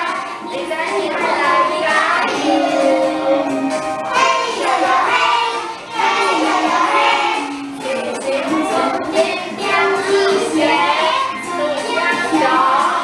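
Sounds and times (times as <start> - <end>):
children singing: 0.0 - 13.0
musical accompaniment: 0.0 - 13.0.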